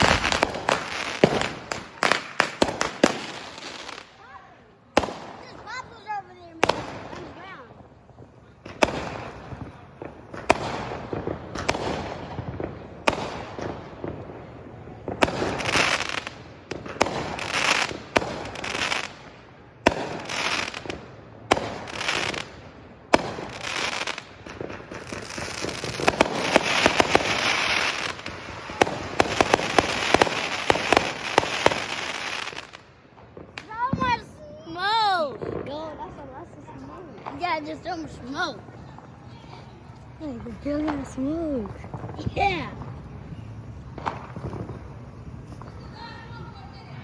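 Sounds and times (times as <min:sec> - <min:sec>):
fireworks bangs: 0:00.0 - 0:47.0
fireworks crackling and popping: 0:00.0 - 0:47.0.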